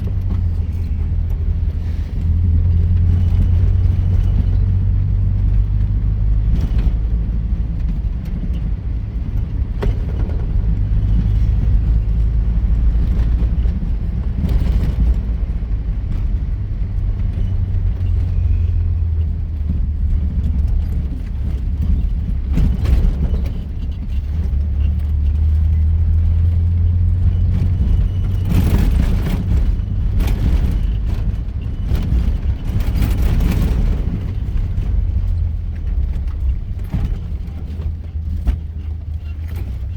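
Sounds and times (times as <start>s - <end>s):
knocks and rattles from bumps: 0.0s - 39.9s
vehicle engine drone: 0.0s - 39.9s.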